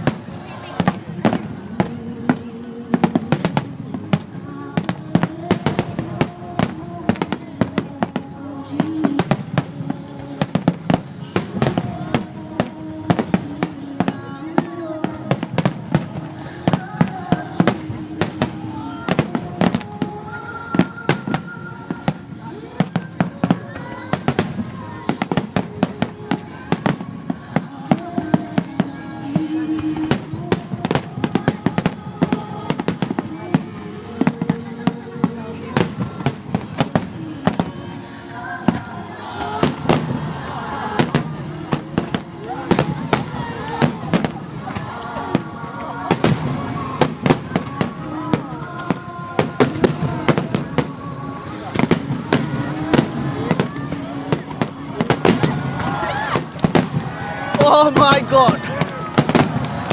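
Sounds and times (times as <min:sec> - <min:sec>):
fireworks bangs and crackles: 0:00.0 - 0:59.9
music from loudspeakers: 0:00.0 - 0:59.9.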